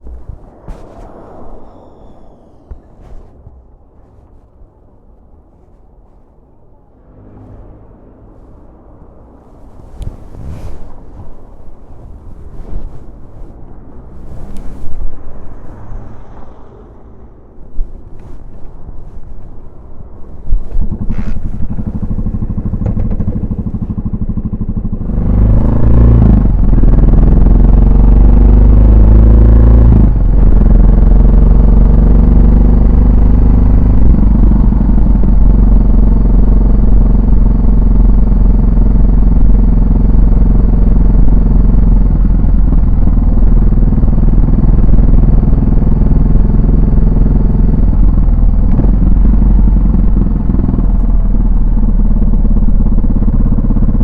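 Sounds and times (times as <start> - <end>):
motorcycle engine revving: 0.0 - 3.3, 6.9 - 54.0.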